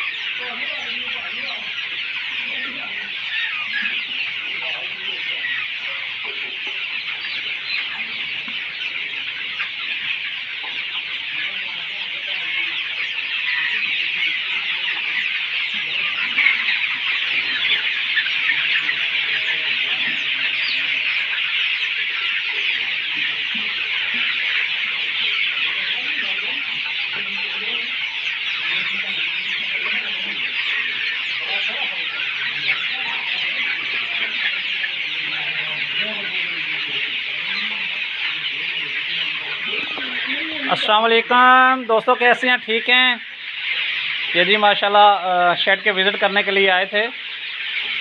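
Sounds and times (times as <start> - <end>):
chicks peeping and cheeping: 0.0 - 48.0.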